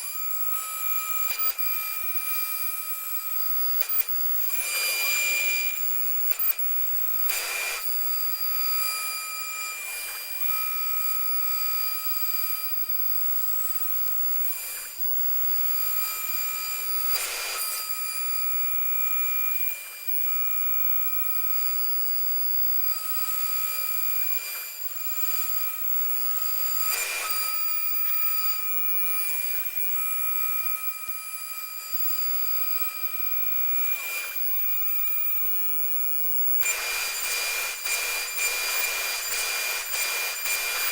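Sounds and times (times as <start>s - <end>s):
cnc router high whine: 0.0s - 40.9s.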